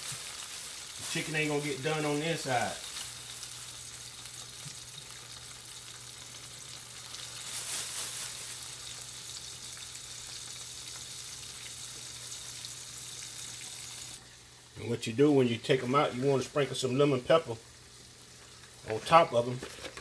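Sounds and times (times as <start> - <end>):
chicken deep-frying in oil: 0.0 - 20.0.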